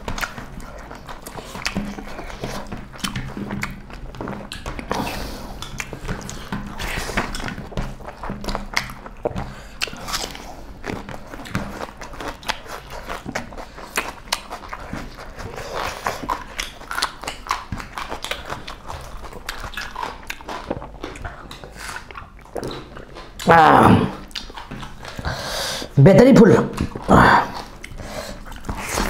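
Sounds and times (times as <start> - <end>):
wet chewing and lip-smacking: 0.0 - 26.0, 26.6 - 29.0.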